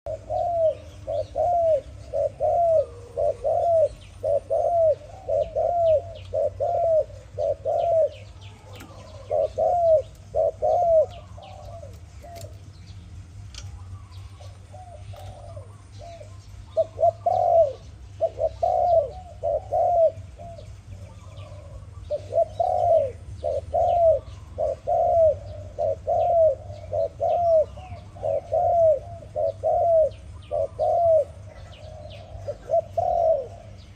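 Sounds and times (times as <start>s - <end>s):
dove cooing: 0.1s - 12.8s, 13.5s - 33.9s
birds chirping: 0.1s - 33.9s
steady low hum: 0.1s - 33.9s.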